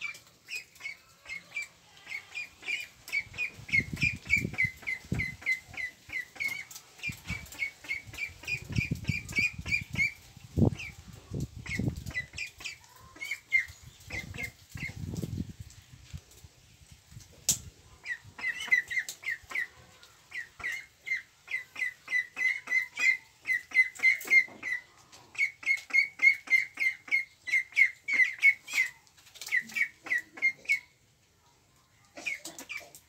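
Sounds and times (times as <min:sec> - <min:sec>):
ducklings peeping: 0:00.0 - 0:15.4, 0:18.0 - 0:31.0.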